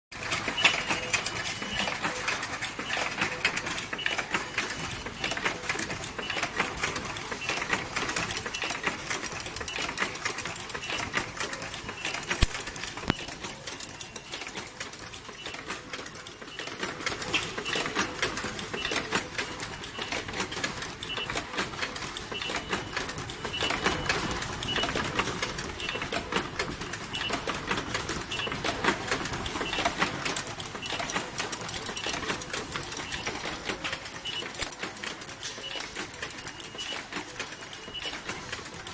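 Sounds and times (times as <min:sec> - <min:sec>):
machine clattering clicks: 0:00.2 - 0:38.9.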